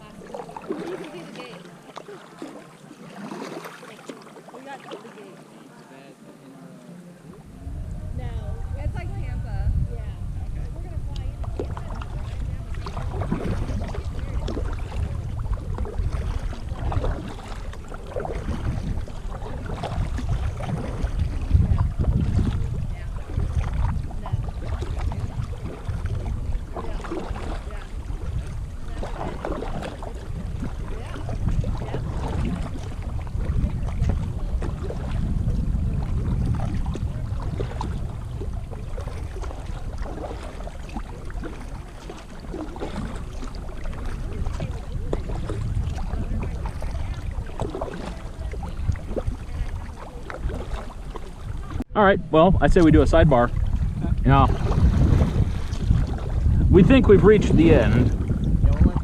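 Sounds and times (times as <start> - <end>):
water sloshing from paddling: 0.0 - 59.0
wind buffeting microphone: 7.4 - 59.0.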